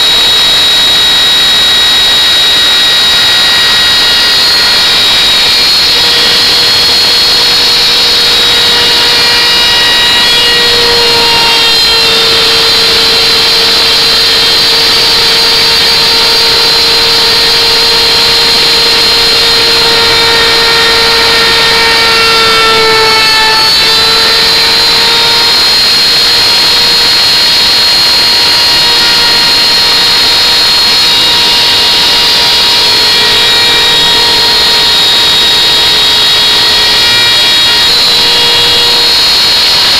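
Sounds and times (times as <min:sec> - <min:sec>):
wood router whining: 0:00.0 - 0:39.9.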